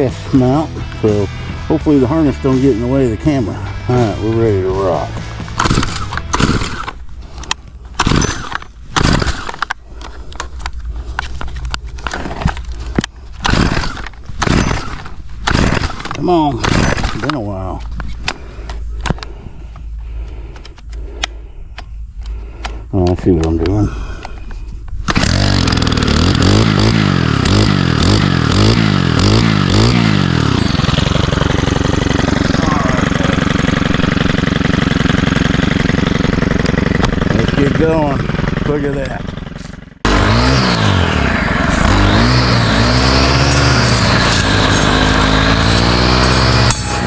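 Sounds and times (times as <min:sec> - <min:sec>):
brush cutter engine revving and idling: 0:00.0 - 0:19.4, 0:25.1 - 0:47.0
starter cord pulls: 0:04.0 - 0:47.0.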